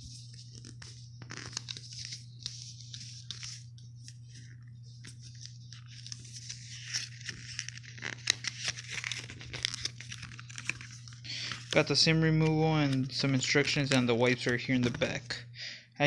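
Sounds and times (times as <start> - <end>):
cardboard packet rustling and crinkling: 0.0 - 15.2
low electrical hum: 0.0 - 16.0.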